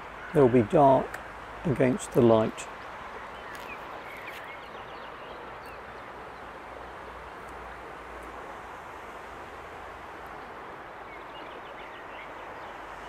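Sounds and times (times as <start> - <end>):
woodland background noise: 0.0 - 13.0.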